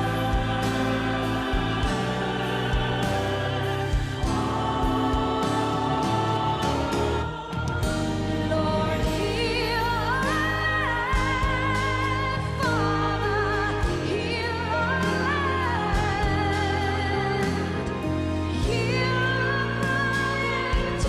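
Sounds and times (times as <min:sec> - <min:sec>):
person singing with vibrato: 0:00.0 - 0:17.6
instrumental accompaniment: 0:00.0 - 0:21.0.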